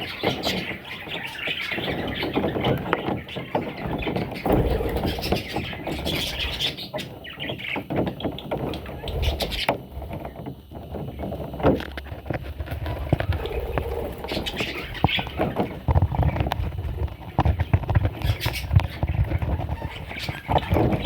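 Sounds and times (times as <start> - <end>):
bird chicks chirping: 0.0 - 21.0
scuffling and clicking: 0.0 - 21.0.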